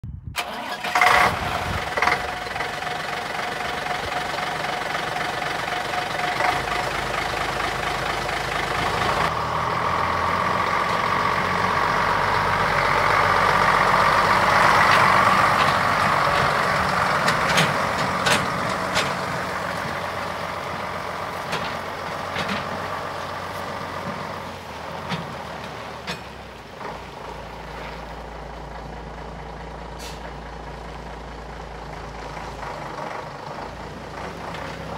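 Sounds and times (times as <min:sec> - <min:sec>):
diesel engine running: 0:00.3 - 0:34.9.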